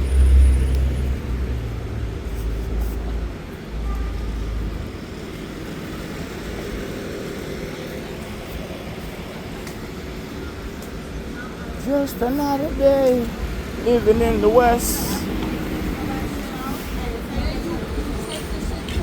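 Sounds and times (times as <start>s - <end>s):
traffic hum: 0.0s - 19.0s
vehicle engine rumble: 0.0s - 19.0s.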